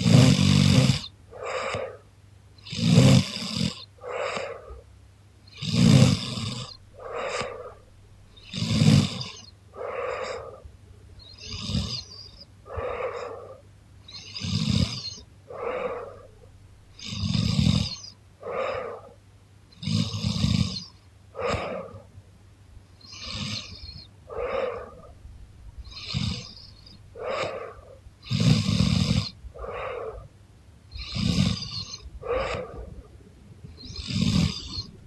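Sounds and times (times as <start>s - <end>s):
woman snoring: 0.0s - 2.0s, 2.6s - 4.8s, 5.5s - 7.8s, 8.4s - 10.7s, 11.3s - 13.6s, 14.2s - 19.1s, 19.8s - 22.0s, 23.1s - 25.1s, 25.9s - 30.3s, 30.9s - 33.1s, 33.8s - 35.0s.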